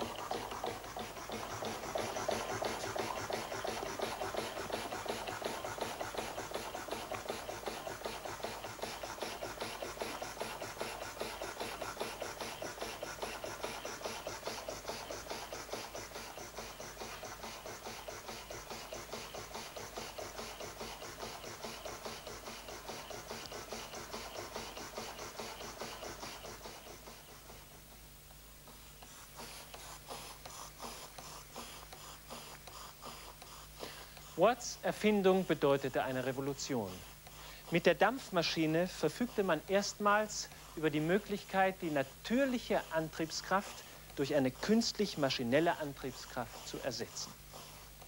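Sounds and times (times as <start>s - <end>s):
model steam engine chuffing: 0.0s - 48.0s.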